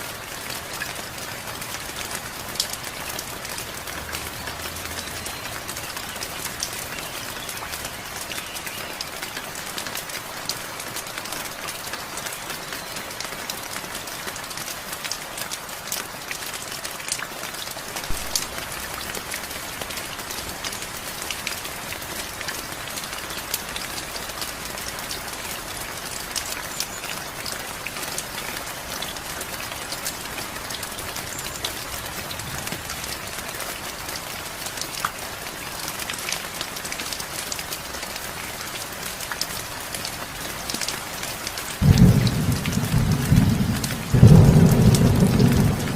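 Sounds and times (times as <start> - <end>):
heavy rain: 0.0 - 45.9
raindrops ticking: 0.1 - 45.9.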